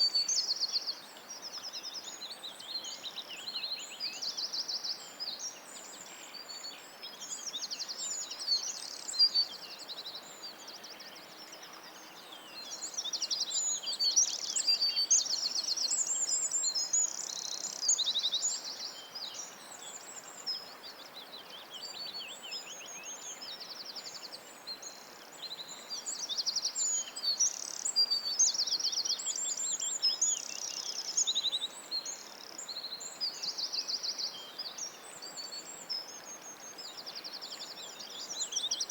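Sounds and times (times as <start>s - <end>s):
faint steady hiss: 0.0s - 38.9s
small birds chirping and trilling: 0.0s - 38.9s.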